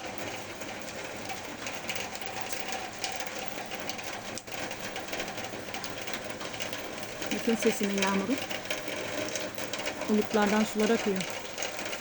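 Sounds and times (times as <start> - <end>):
raindrops pattering on surfaces: 0.0 - 12.0
steady rain falling: 0.0 - 12.0.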